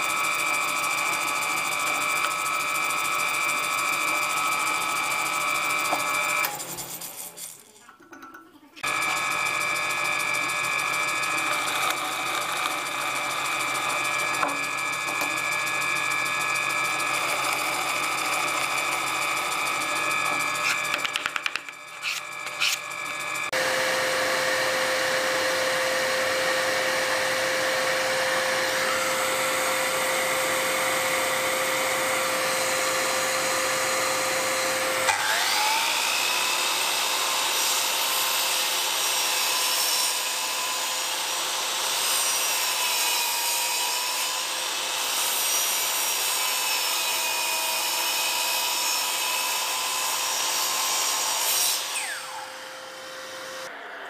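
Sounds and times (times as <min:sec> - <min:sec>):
miter saw whining: 0:00.0 - 0:07.3, 0:08.8 - 0:42.8, 0:46.5 - 0:54.0
drill press boring wood: 0:00.0 - 0:07.8, 0:08.8 - 0:53.7.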